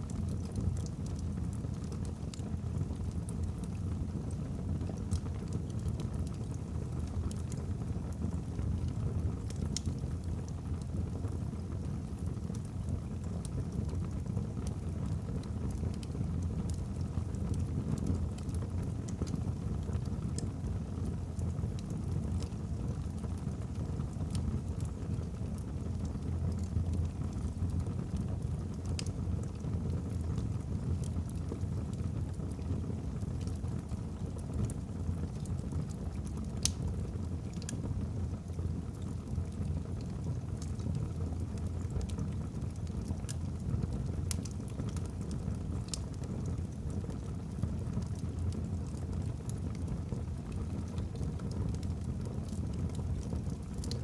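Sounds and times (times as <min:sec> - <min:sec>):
crackles from logs: 0:00.0 - 0:54.0
low rumble of flames: 0:00.0 - 0:54.0.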